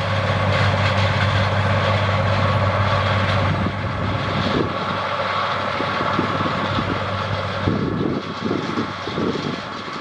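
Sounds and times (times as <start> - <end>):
tractor engine running under load: 0.0 - 10.0.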